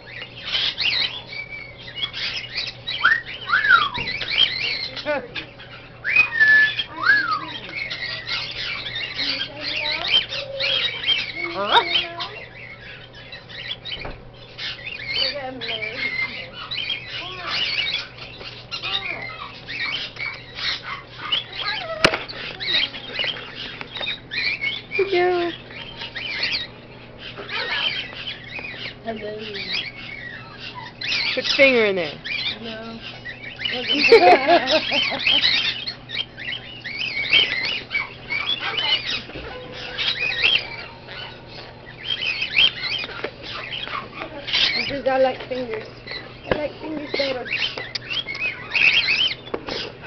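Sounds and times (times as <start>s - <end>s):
birds chirping and squawking: 0.0s - 50.0s.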